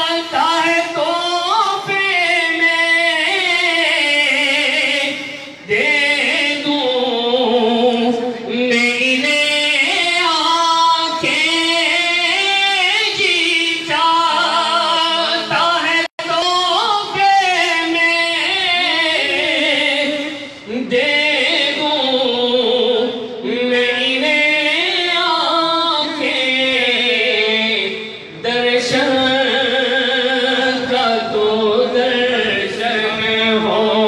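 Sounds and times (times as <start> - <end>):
man singing devotional poetry: 0.0 - 34.0.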